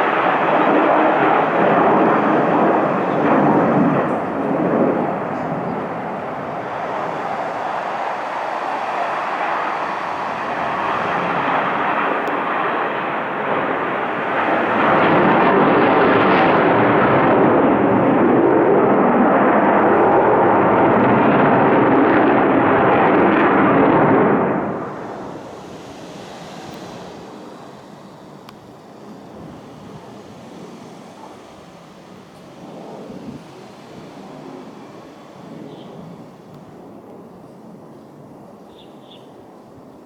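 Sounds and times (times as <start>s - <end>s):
fighter jet engines roaring: 0.0s - 40.0s.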